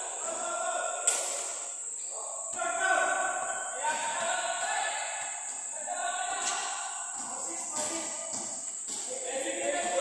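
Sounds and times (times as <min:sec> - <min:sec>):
indistinct voices echoing: 0:00.0 - 0:10.0
steady high-pitched hiss: 0:00.0 - 0:10.0.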